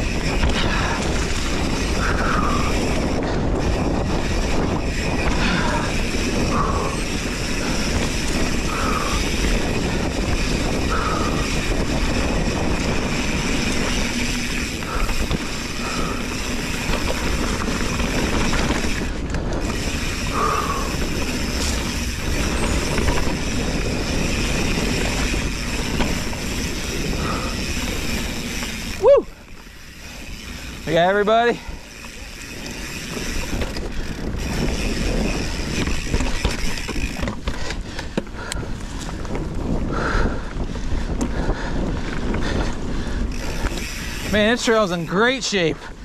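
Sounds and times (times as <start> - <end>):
bike parts rattling and clicking: 0.0 - 46.0
bike tyres rolling on dirt: 0.0 - 46.0.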